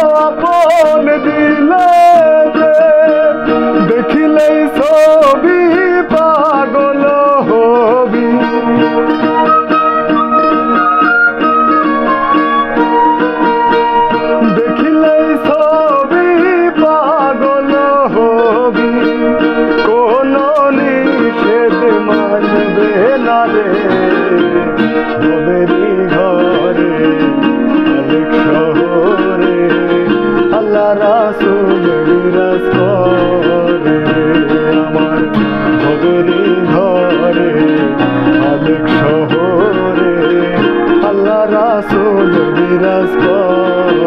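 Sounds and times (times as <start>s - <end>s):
acoustic guitar ukulele and keyboard: 0.0s - 44.0s.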